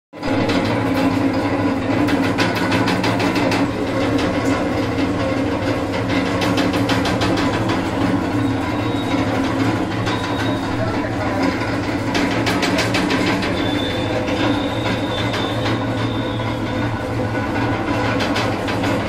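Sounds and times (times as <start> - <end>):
machine motor hum: 0.2 - 19.0.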